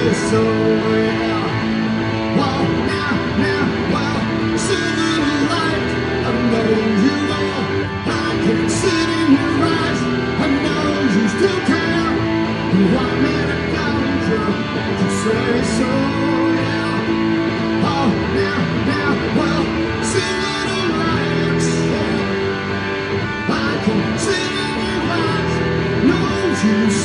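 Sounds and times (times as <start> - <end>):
electric guitar strumming: 0.0 - 27.0.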